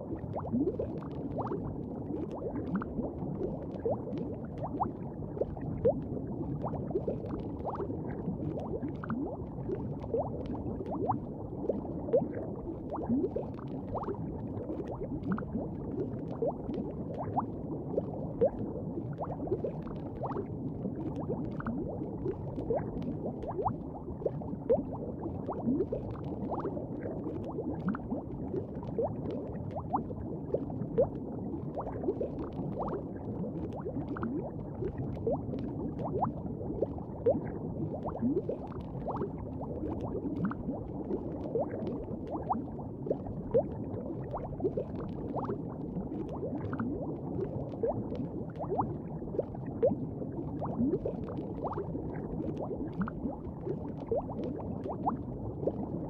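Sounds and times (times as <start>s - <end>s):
liquid bubbling: 0.0s - 56.0s.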